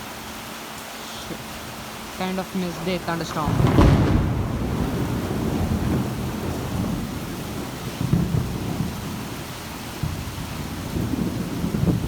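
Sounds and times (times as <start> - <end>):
heavy rain pouring: 0.0 - 12.0
thunder rumbling: 1.0 - 12.0.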